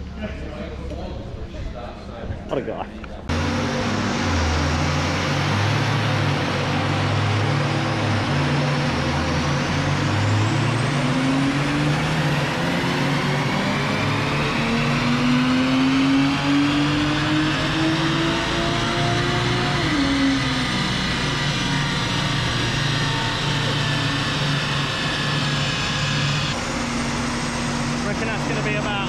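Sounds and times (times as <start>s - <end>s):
car engine revving on dyno: 3.3s - 29.0s.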